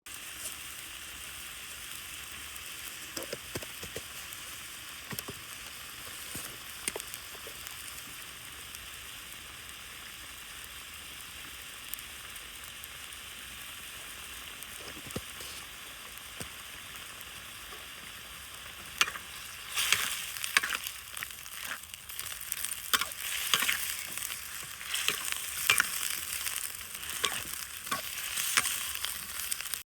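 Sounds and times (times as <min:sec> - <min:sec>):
food sizzling in hot oil: 0:00.1 - 0:29.9.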